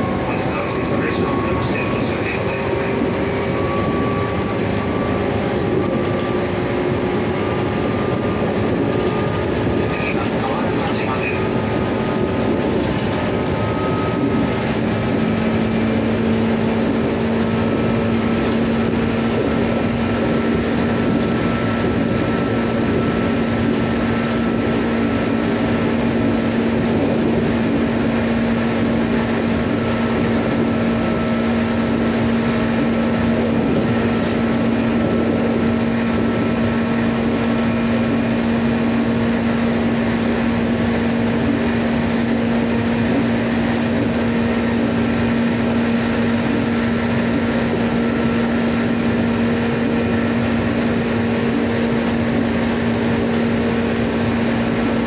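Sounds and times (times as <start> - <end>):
traction motor tone: 0.0 - 55.0
wheels rumbling on rail: 0.0 - 55.0.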